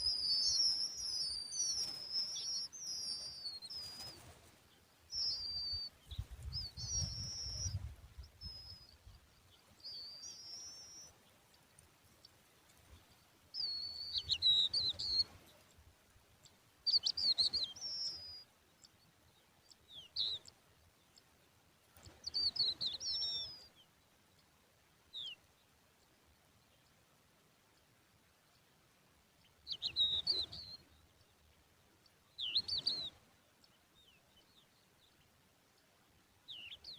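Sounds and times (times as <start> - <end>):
bird chicks chirping: 0.0 - 27.0, 29.4 - 36.9.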